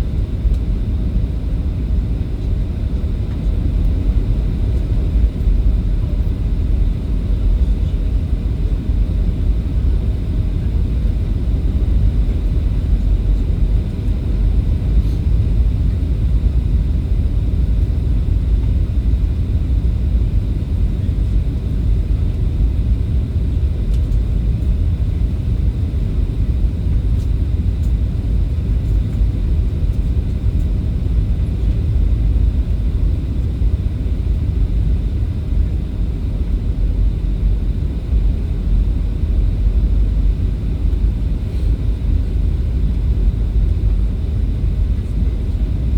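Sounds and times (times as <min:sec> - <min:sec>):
jet airliner cabin rumble: 0:00.0 - 0:45.9.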